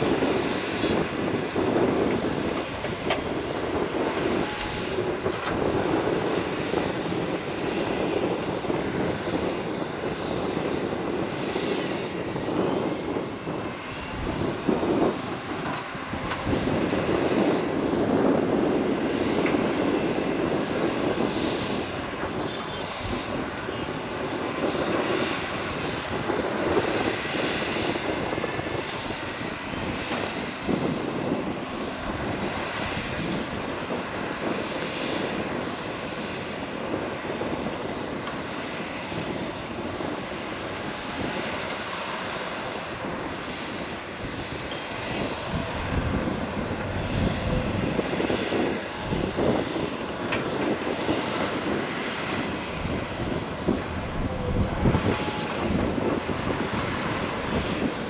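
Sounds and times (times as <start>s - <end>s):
excavator diesel engines running: 0.0s - 58.0s.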